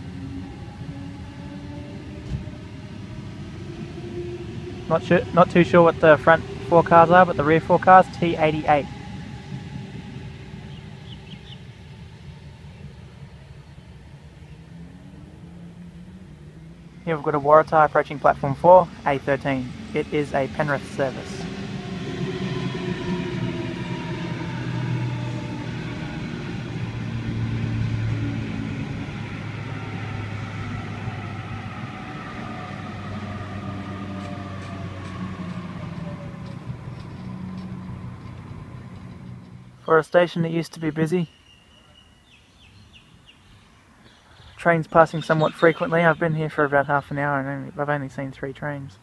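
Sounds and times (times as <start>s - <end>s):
traction motor whine: 0.0s - 39.8s
electric train rumble: 0.0s - 49.0s.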